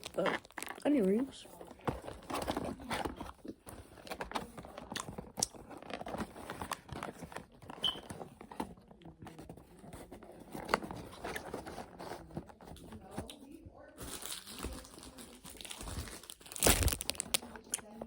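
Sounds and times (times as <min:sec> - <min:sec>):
chewing and crunching: 0:00.0 - 0:12.0, 0:12.7 - 0:18.0.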